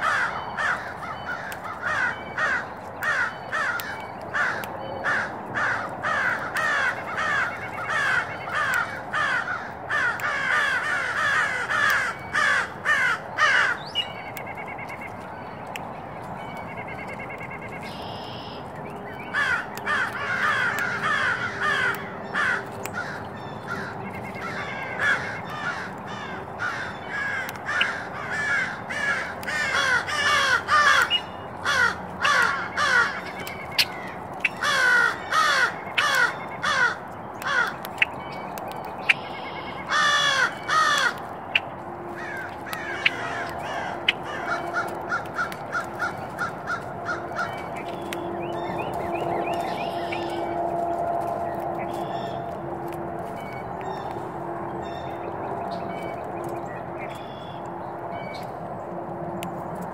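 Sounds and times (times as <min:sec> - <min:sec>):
birds calling harshly: 0:00.0 - 0:58.7.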